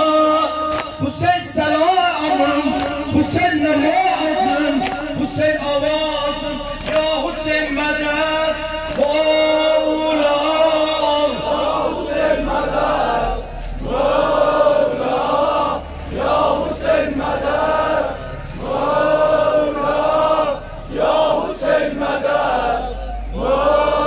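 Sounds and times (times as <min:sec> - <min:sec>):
men chanting in unison: 0:00.0 - 0:24.0.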